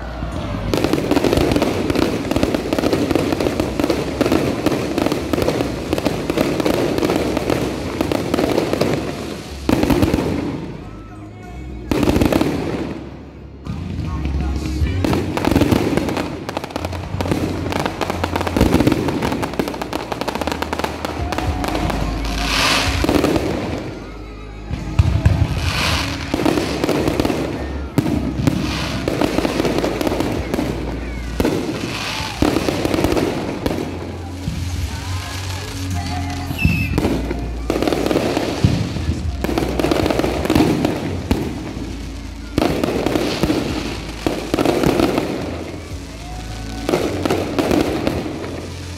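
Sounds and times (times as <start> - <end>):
fireworks bangs and crackling: 0.0 - 48.9
music playing: 0.0 - 48.9.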